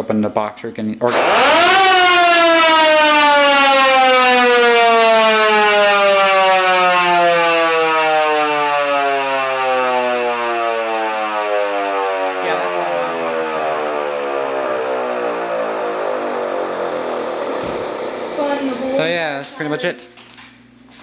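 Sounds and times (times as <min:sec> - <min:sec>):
electromechanical siren wail: 0:01.1 - 0:19.4.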